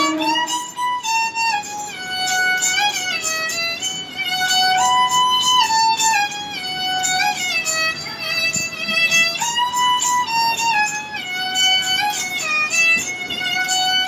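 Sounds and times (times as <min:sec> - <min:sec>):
bowed fiddle solo melody: 0:00.0 - 0:14.0.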